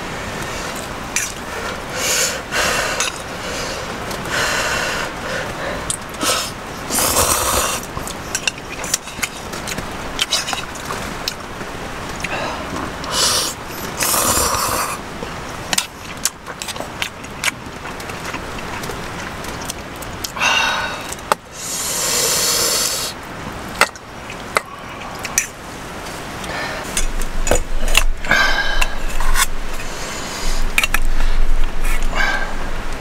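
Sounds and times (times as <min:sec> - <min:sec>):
rustling hiss: 0:00.0 - 0:33.0.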